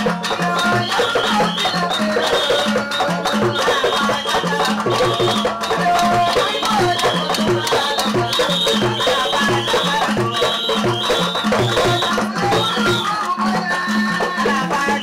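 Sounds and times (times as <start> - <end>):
drum and percussion rhythm: 0.0 - 15.0
woman singing: 0.0 - 15.0.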